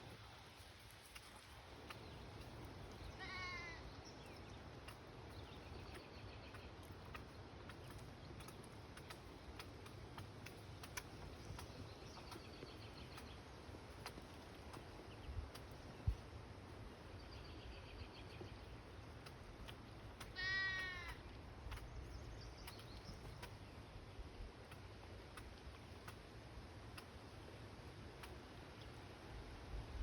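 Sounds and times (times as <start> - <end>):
ducklings peeping: 1.0 - 29.0.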